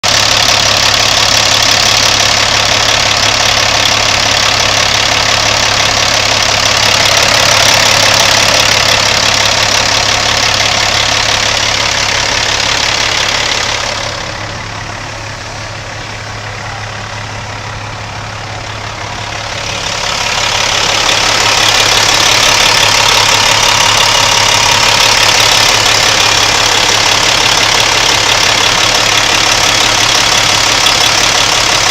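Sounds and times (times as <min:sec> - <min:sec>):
diesel truck engine idling: 0:00.0 - 0:31.9.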